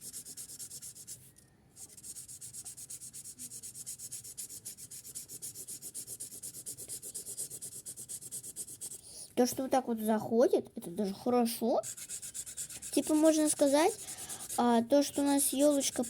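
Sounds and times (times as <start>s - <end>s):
felt marker scratching paper: 0.0s - 9.1s, 11.0s - 16.0s.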